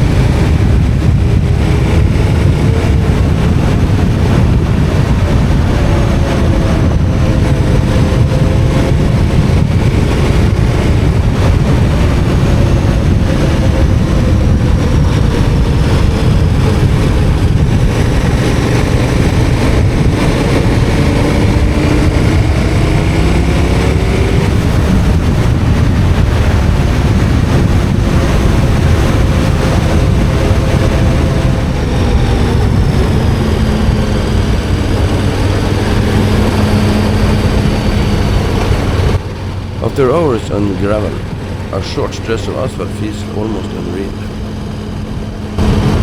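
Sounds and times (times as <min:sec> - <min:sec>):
motorcycle engine running: 0:00.0 - 0:41.8, 0:42.7 - 0:46.0
wind and road noise: 0:00.0 - 0:46.0.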